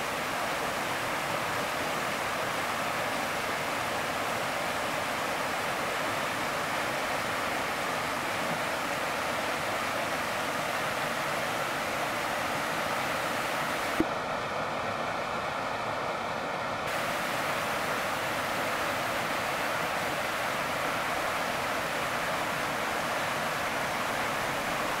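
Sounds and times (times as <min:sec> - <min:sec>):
stream cascading over boulders: 0:00.0 - 0:25.0.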